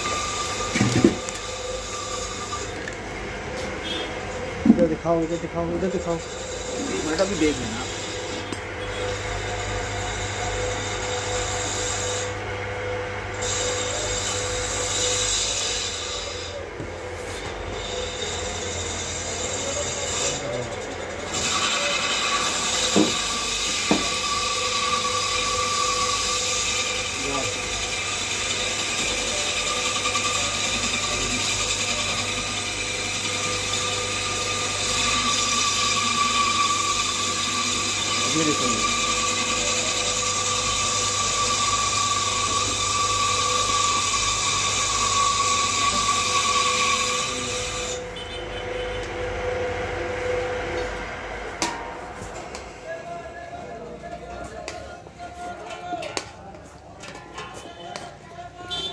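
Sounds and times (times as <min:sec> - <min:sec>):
mechanical hum with whine: 0:00.0 - 0:58.9.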